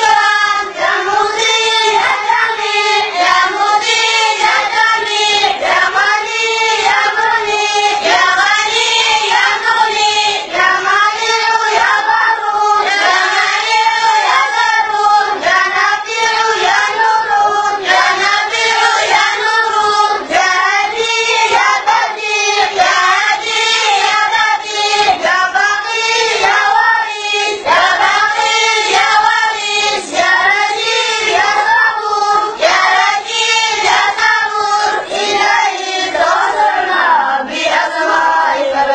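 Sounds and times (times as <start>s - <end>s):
boys singing in unison: 0.0s - 38.9s.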